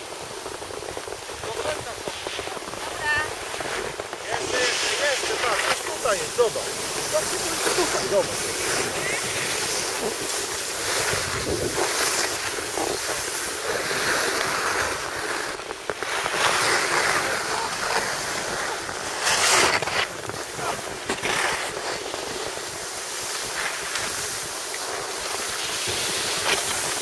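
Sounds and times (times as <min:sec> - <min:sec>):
ski scrape: 0:00.0 - 0:27.0
skis sliding over snow: 0:00.0 - 0:27.0.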